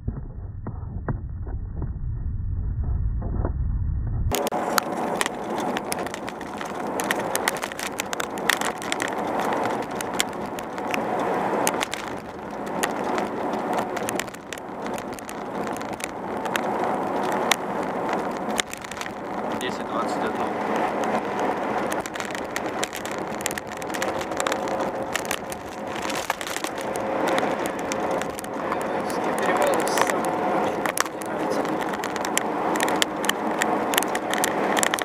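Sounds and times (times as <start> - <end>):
car road and wind noise: 0.0 - 35.0
crackling clicks: 4.3 - 35.0.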